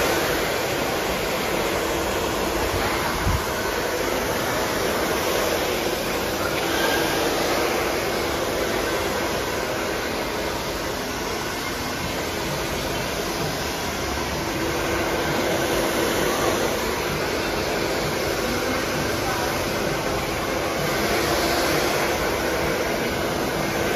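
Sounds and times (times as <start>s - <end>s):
hair dryer blowing: 0.0s - 23.9s.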